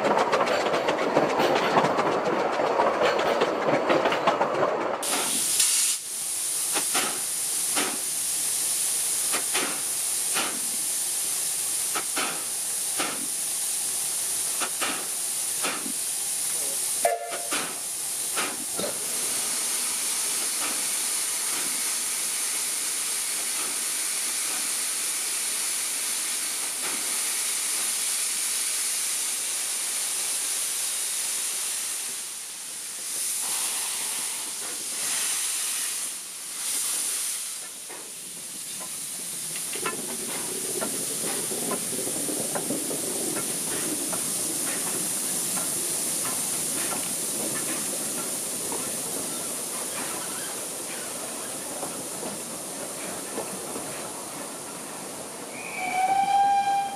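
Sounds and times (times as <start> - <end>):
train rumbling: 0.0 - 30.8, 31.4 - 56.9
steam hissing: 5.0 - 56.9.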